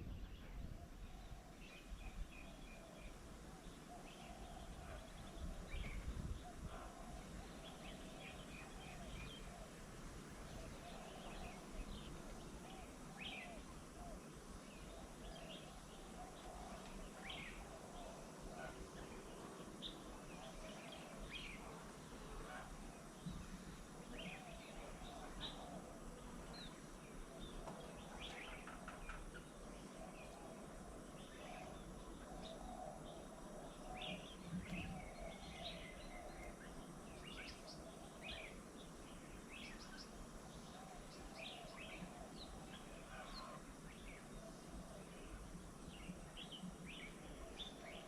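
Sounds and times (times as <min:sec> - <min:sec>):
wild birds chirping: 0:00.0 - 0:48.0.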